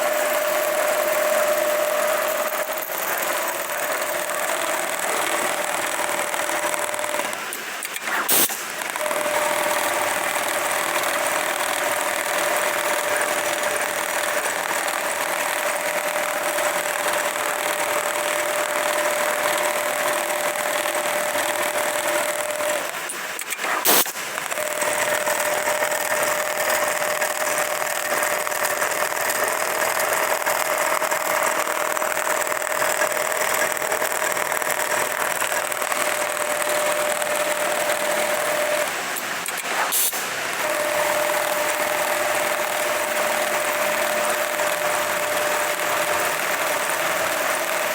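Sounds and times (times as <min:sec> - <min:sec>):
sewing machine running: 0:00.0 - 0:47.9.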